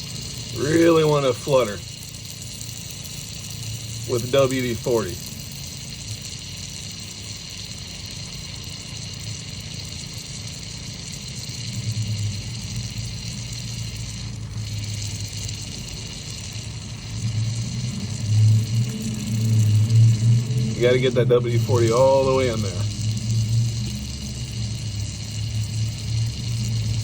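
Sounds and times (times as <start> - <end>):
aerosol can spraying: 0.0 - 27.0
low steady hum: 0.0 - 27.0.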